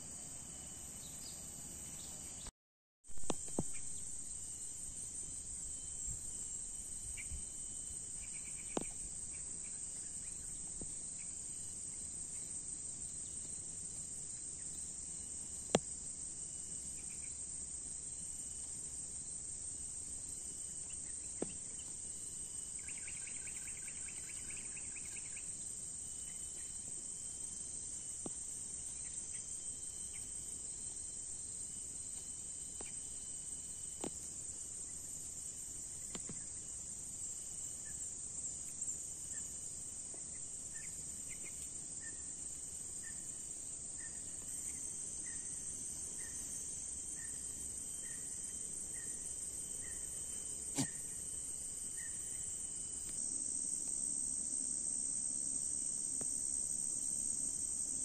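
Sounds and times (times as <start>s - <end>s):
crickets and insects chorus: 0.0s - 2.5s, 3.1s - 58.0s
rapid pulsed insect trill: 0.0s - 2.5s, 3.1s - 58.0s.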